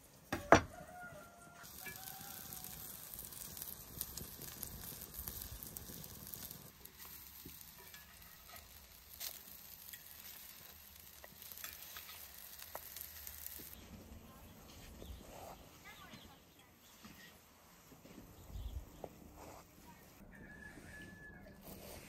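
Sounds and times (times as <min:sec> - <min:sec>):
patties sizzling in oil: 0:00.0 - 0:22.0.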